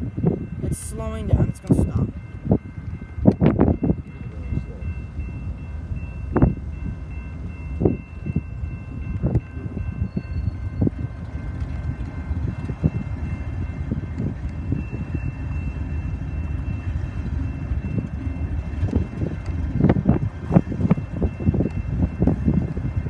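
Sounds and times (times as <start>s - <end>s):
locomotive engine and wheels rumbling: 0.0s - 23.0s
train knocks: 0.0s - 23.0s.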